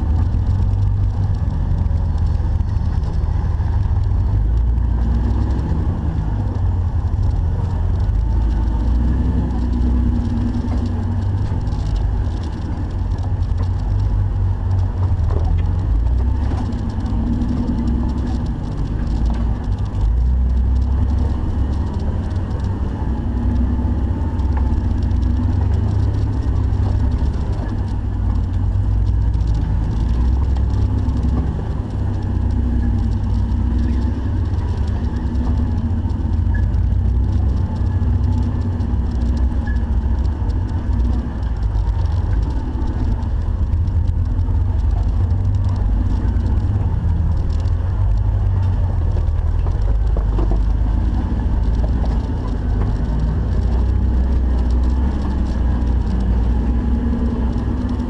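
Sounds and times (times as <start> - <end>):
off-road vehicle engine rumble: 0.0 - 58.0.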